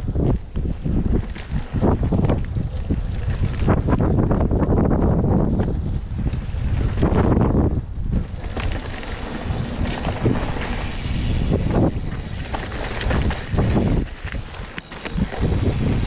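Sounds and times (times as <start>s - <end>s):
tyres rumbling on gravel: 0.0s - 16.0s
wind buffeting microphone: 0.0s - 16.0s.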